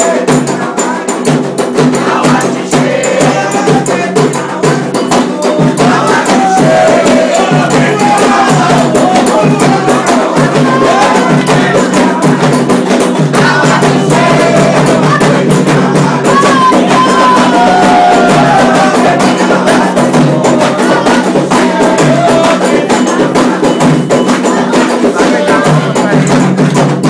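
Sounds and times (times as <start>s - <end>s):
person singing: 0.0s - 26.7s
hand drums and percussion: 0.0s - 27.0s.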